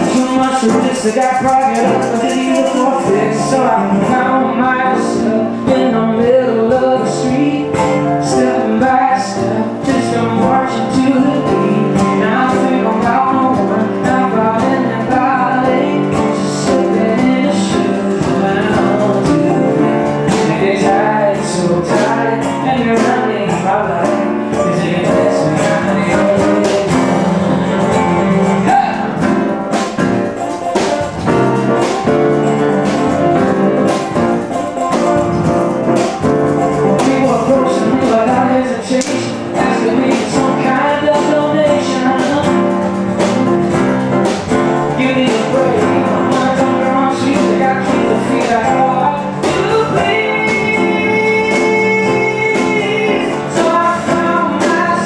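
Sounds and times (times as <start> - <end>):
hand percussion: 0.0 - 55.0
keyboard playing: 0.0 - 55.0
man singing: 0.0 - 55.0.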